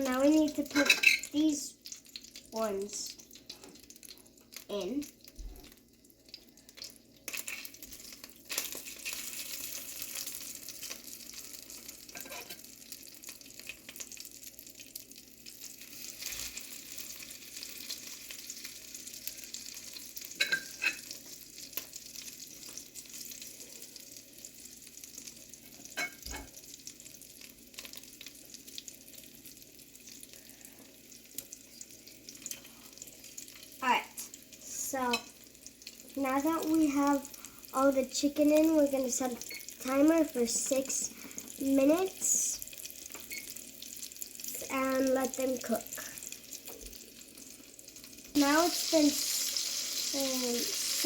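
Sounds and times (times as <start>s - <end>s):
meat sizzling in a pan: 0.0s - 51.0s.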